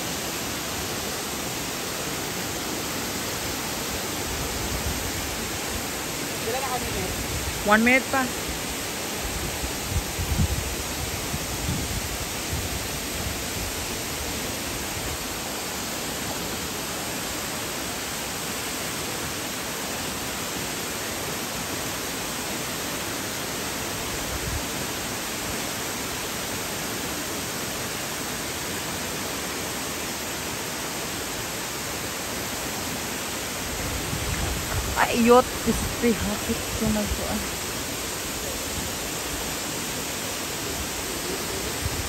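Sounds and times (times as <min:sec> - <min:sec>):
waterfall pouring into pool: 0:00.0 - 0:34.7, 0:37.5 - 0:42.0.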